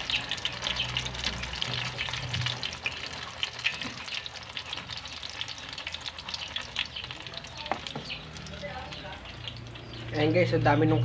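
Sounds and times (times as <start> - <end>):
mushrooms deep-frying in oil: 0.0 - 11.0.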